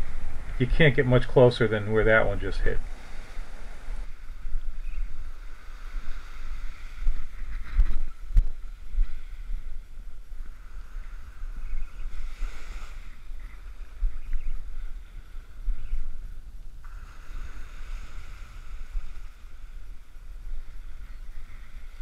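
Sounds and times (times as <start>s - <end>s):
surf washing up beach: 0.0s - 22.0s
wind buffeting microphone: 0.0s - 22.0s.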